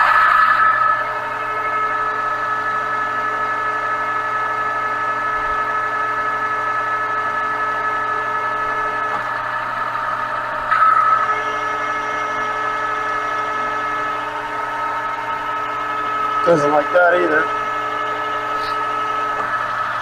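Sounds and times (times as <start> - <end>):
metal lathe high-pitched whine: 0.0 - 20.0.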